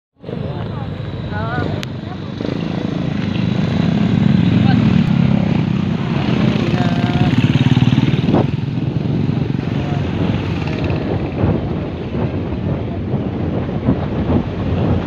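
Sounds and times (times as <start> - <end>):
motorcycles passing: 0.2 - 15.0.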